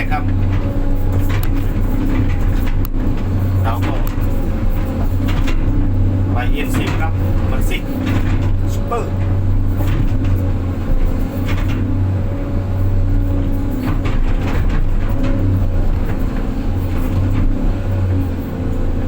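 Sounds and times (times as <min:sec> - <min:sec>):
diesel truck engine running: 0:00.0 - 0:19.0
knocks and rattles: 0:00.0 - 0:19.0.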